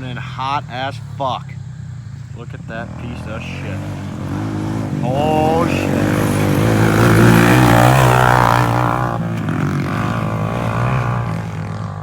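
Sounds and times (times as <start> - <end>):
atv engine revving past: 0.0 - 12.0.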